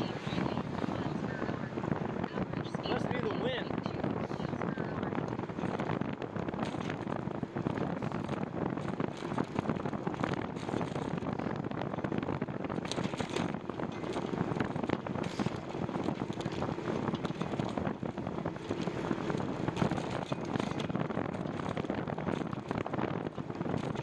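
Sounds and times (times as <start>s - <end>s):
road noise: 0.0s - 24.0s
wind rushing over microphone: 0.0s - 24.0s.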